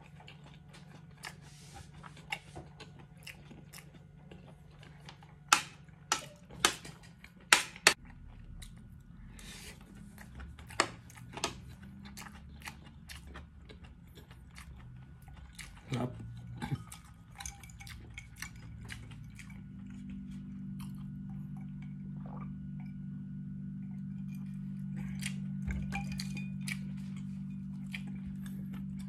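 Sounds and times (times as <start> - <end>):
person chewing with mouth smacks: 0.0 - 22.9, 24.2 - 29.0.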